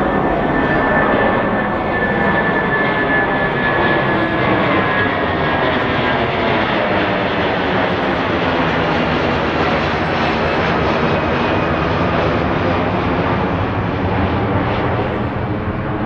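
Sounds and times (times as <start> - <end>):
high engine whine: 0.0 - 16.0
jet airliner engines running: 0.0 - 16.0.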